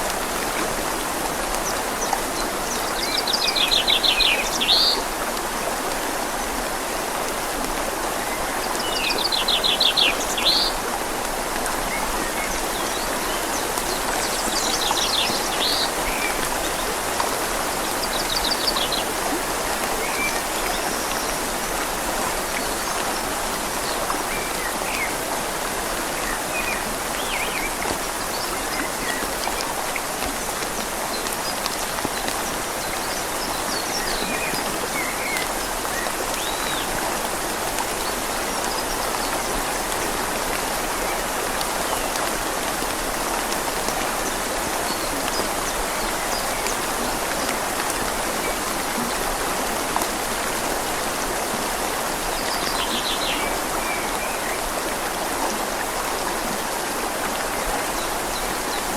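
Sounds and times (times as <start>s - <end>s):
rain falling on leaves: 0.0s - 58.9s
river flowing: 0.0s - 58.9s.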